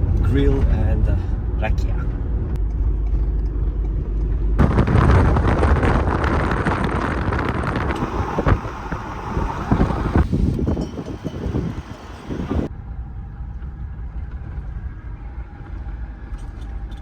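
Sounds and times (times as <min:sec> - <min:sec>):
vehicle engine and road rumble: 0:00.0 - 0:17.0
wind noise: 0:00.0 - 0:17.0.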